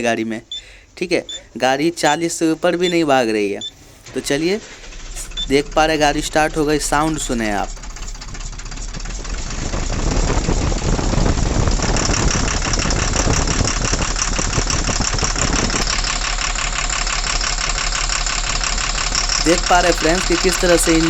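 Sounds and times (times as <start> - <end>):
truck diesel engine idling rough: 2.8 - 21.0.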